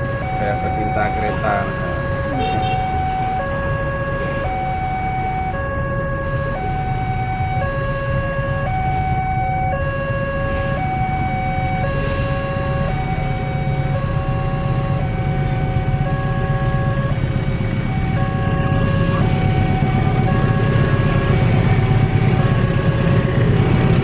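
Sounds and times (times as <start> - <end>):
diesel locomotive rumble: 0.0 - 24.0
two-tone crossing alarm: 0.0 - 24.0.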